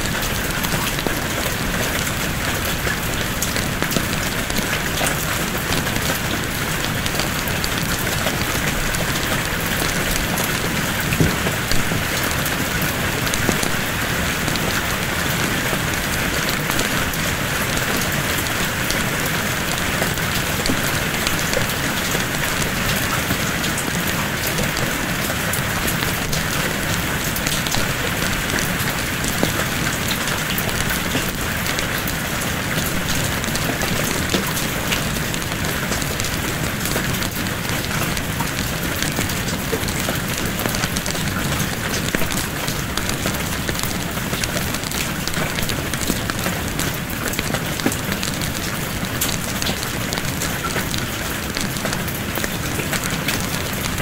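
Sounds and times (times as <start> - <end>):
steady rain falling: 0.0 - 54.0
wood fire crackling: 0.1 - 54.0.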